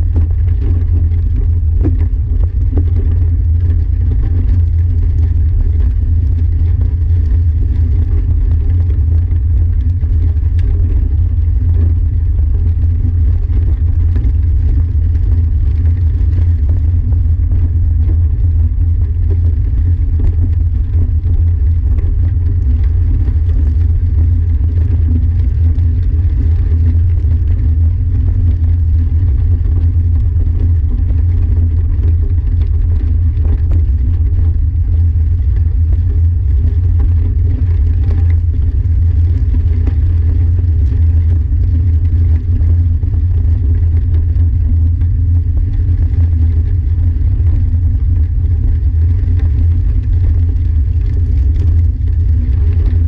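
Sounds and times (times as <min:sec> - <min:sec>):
rolling on gravel: 0:00.0 - 0:53.0.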